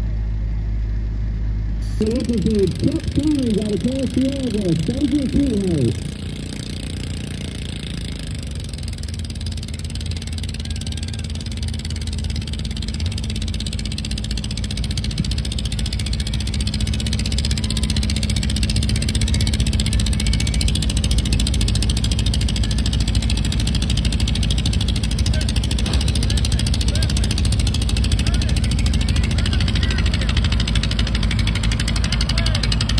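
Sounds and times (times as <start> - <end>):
tractor engine running hard: 0.0 - 32.9.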